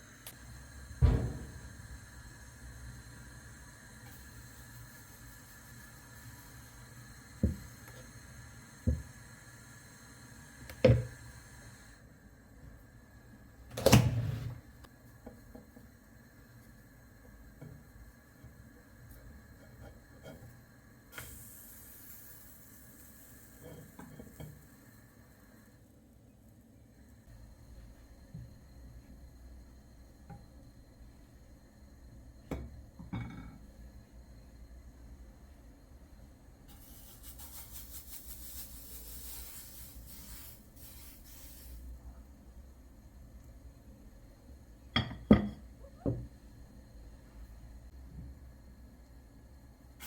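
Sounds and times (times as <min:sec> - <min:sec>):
faint sizzling in frying pan: 0:00.0 - 0:35.2, 0:36.6 - 0:50.0.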